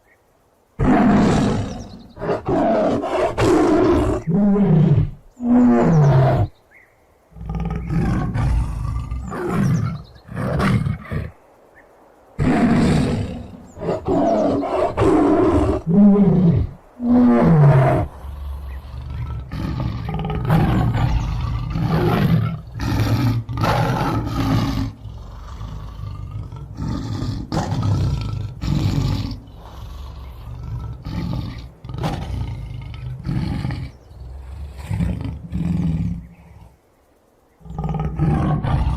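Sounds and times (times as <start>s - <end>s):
tiger rumbling growls: 0.7s - 6.6s, 7.3s - 11.6s, 12.4s - 38.9s
tiger roaring: 0.8s - 6.5s, 7.4s - 11.4s, 12.4s - 36.8s, 37.6s - 38.9s.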